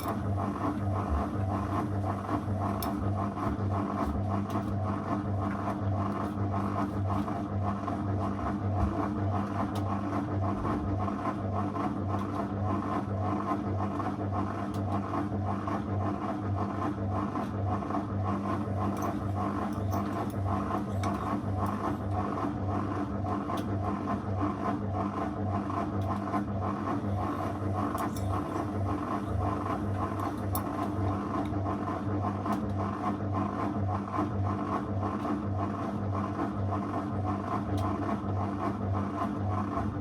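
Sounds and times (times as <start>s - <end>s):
washing machine motor hum: 0.0s - 40.0s.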